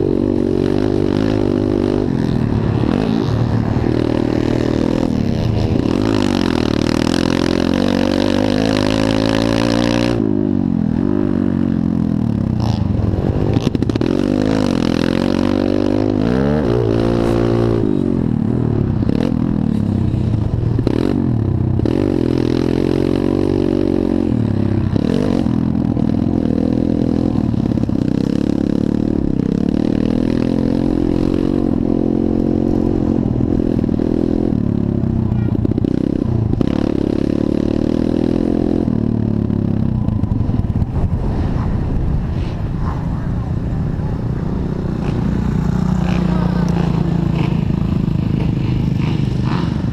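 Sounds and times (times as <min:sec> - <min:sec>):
pit bike engines revving: 0:00.0 - 0:49.9.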